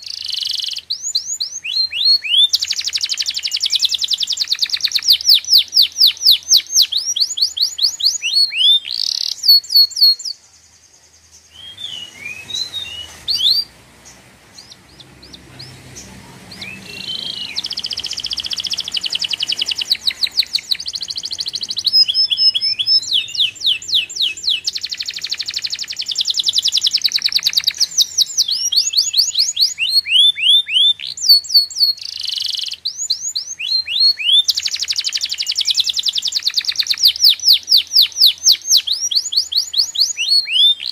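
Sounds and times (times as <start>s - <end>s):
small bird trilling: 0.0s - 10.4s, 11.5s - 40.9s.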